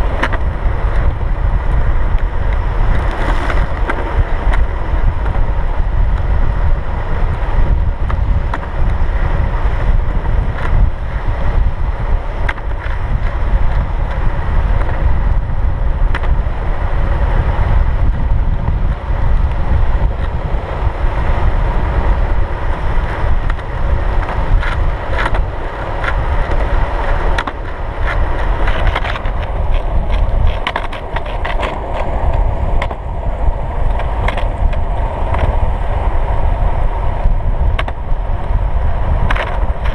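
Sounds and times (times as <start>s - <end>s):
skateboard wheels rolling on asphalt: 0.0s - 39.9s
wind buffeting microphone: 0.0s - 39.9s.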